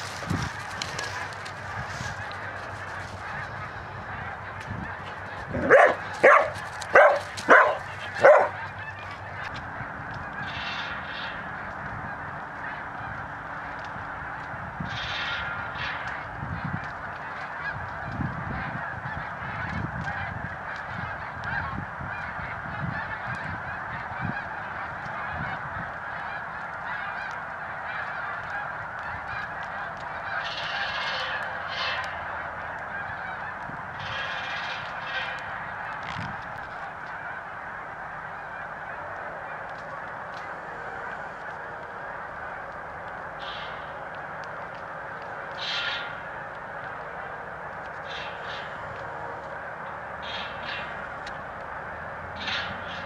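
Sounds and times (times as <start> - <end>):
geese honking: 0.0 - 53.0.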